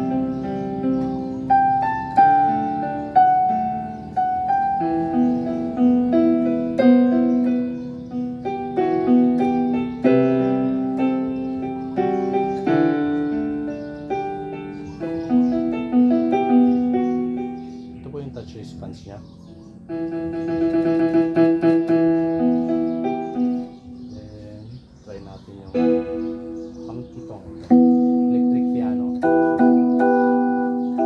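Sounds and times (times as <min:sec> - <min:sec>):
keyboard piano melody over chords: 0:00.0 - 0:31.0.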